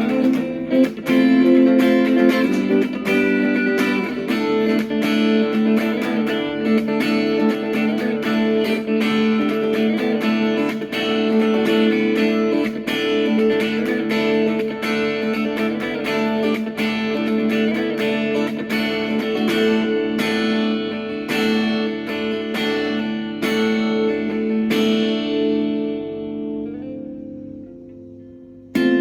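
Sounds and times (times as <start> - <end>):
instrumental guitar music: 0.0 - 29.0.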